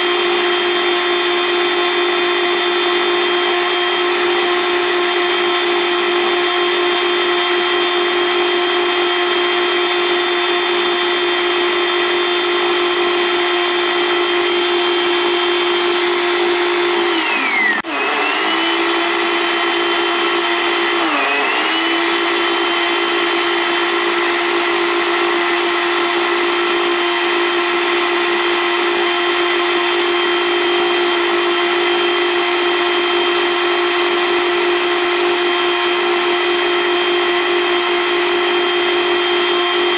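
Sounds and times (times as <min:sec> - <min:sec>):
blender motor running: 0:00.0 - 0:39.9.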